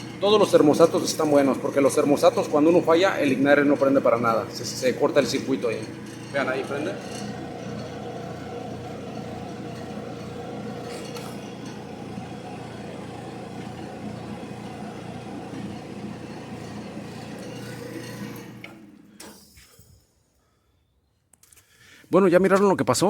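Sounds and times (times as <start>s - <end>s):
dryer drum motor humming: 0.0s - 19.0s.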